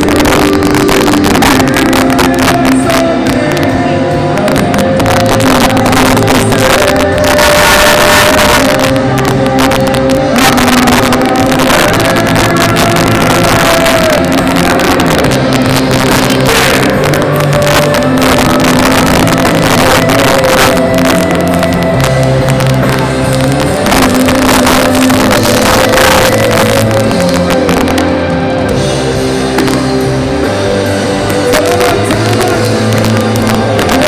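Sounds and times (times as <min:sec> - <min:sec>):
drums: 0:00.0 - 0:34.0
electric guitar: 0:00.0 - 0:34.0
live reggae band playing: 0:00.0 - 0:34.0
person singing: 0:00.0 - 0:34.0.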